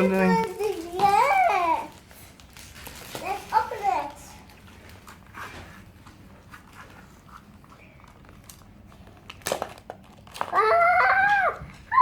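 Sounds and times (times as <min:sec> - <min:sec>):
packaging crinkling: 0:00.0 - 0:05.9, 0:06.6 - 0:11.8.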